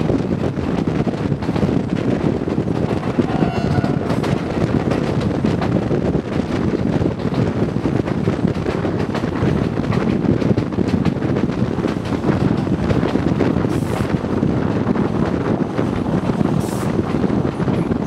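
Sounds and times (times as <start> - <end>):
train wheels rumbling on rails: 0.0 - 18.0
wind rushing past microphone: 0.0 - 18.0.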